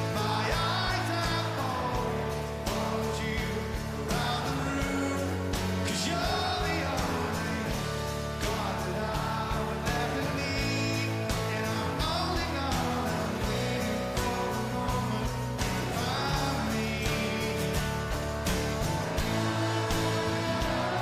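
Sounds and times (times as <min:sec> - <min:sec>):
person singing: 0:00.0 - 0:18.0, 0:19.0 - 0:21.0
drums: 0:00.0 - 0:21.0
electric guitars: 0:00.0 - 0:21.0.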